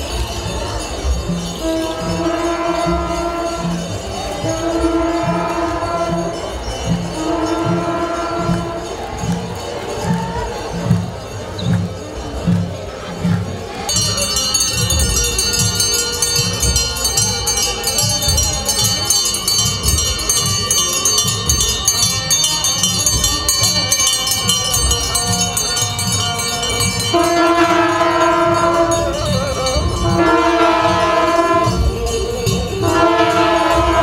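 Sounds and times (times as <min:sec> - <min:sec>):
hand bells jingling: 0:00.0 - 0:34.0
voices chanting: 0:00.0 - 0:34.0.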